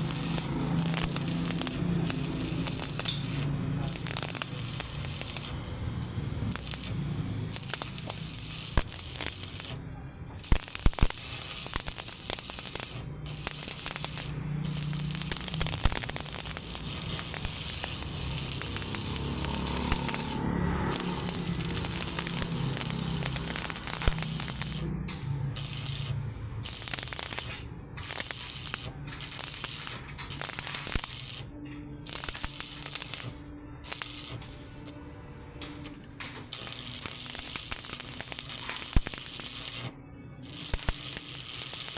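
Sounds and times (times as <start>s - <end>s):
arc welding crackling: 0.0s - 41.9s.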